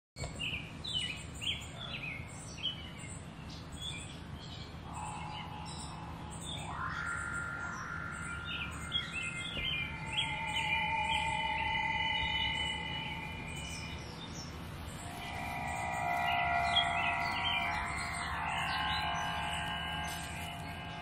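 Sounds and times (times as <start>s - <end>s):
birds chirping: 0.2s - 21.0s
sustained musical drone: 3.0s - 21.0s.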